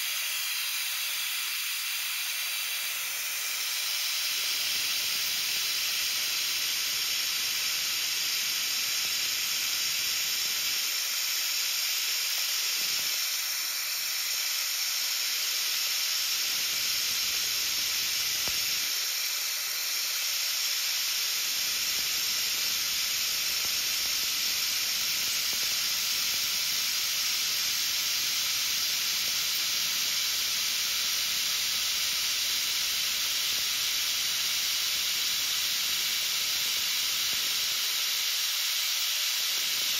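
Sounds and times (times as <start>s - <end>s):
air nozzle hissing: 0.0s - 39.9s.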